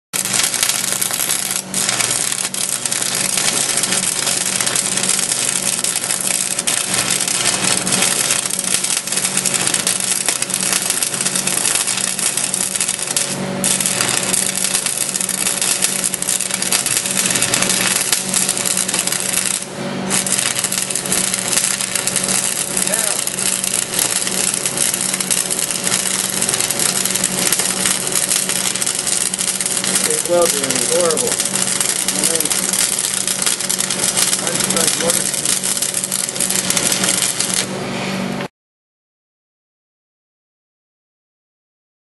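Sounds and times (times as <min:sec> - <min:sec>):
arc welding crackle and sizzle: 0:00.1 - 0:38.5.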